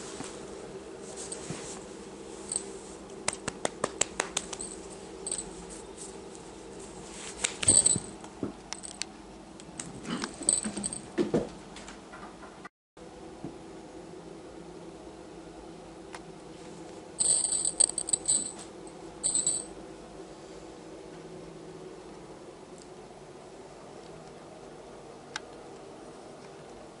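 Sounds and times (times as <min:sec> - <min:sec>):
steady low hum: 0:00.0 - 0:11.8, 0:13.0 - 0:27.0.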